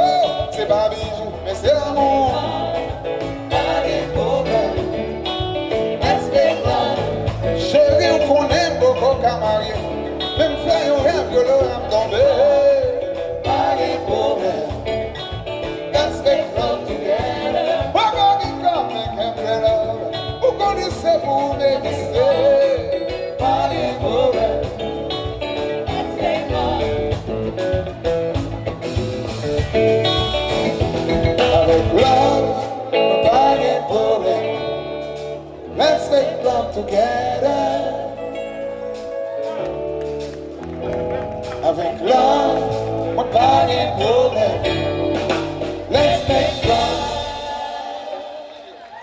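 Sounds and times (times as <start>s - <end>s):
person singing: 0.0s - 27.8s, 31.2s - 40.2s, 41.4s - 49.0s
live band music: 0.0s - 49.0s.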